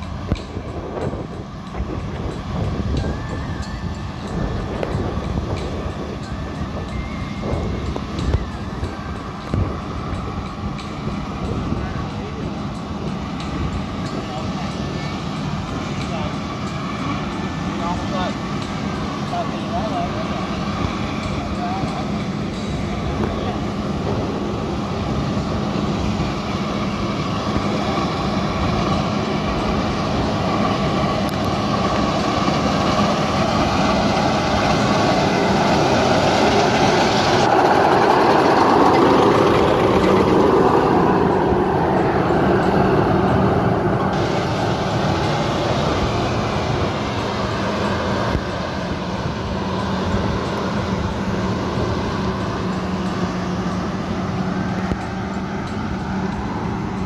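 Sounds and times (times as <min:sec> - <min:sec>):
combine harvester engine running: 0:00.0 - 0:57.0.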